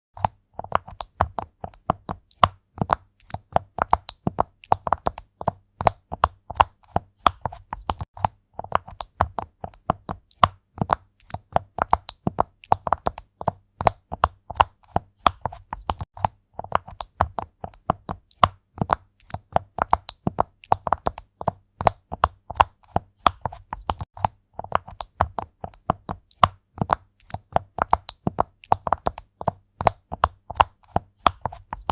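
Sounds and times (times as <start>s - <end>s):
fast keyboard typing: 0.2s - 31.9s.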